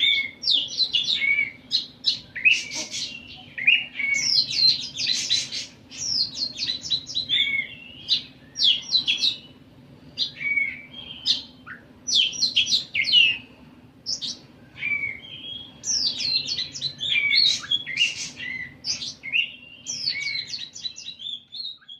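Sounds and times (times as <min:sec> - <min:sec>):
songbird chattering and whistling: 0:00.0 - 0:21.9.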